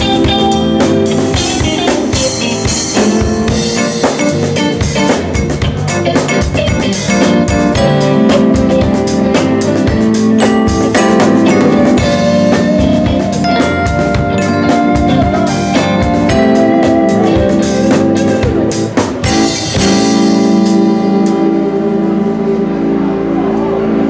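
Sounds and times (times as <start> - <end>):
drum kit: 0.0 - 24.0
electric guitar: 0.0 - 24.0
sustained chords: 0.0 - 24.0.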